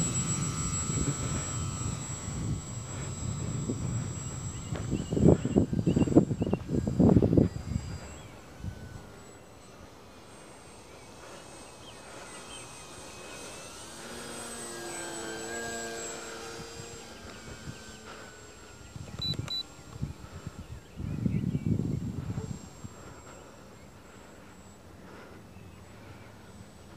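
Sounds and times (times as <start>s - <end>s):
model plane motor buzzing: 0.0s - 26.9s.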